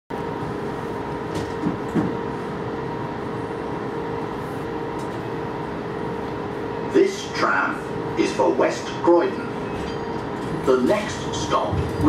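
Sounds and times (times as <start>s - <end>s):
tram electrical drone with tones: 0.1s - 12.0s.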